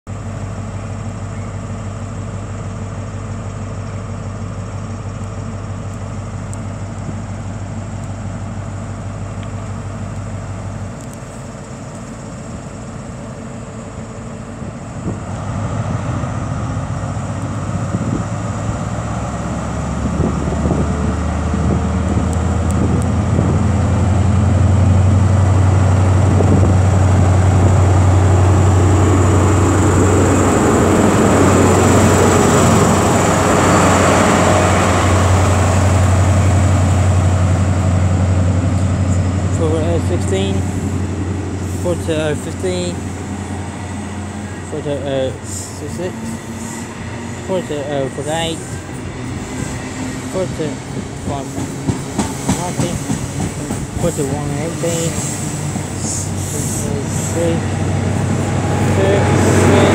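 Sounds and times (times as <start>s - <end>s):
diesel train engine: 0.1s - 59.9s.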